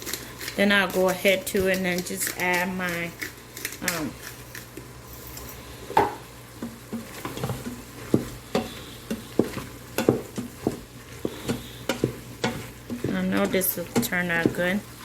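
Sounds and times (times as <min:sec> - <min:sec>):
spoon scraping and knocking pot: 0:00.0 - 0:04.7, 0:06.0 - 0:14.9
meat sizzling faintly: 0:00.0 - 0:15.0.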